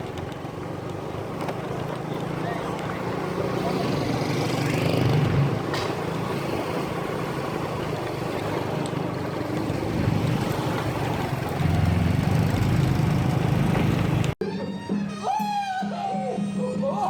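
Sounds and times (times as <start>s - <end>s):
engine running: 0.0s - 14.4s.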